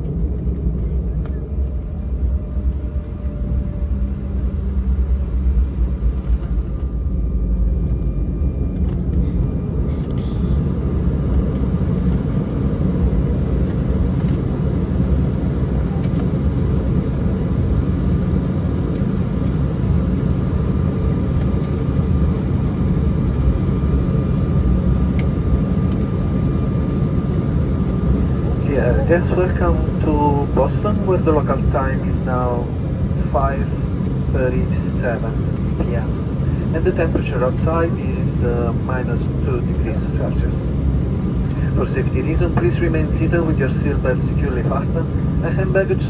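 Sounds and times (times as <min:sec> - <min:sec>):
low rumble of engines and wheels: 0:00.0 - 0:46.0
faint steady whine: 0:07.8 - 0:46.0.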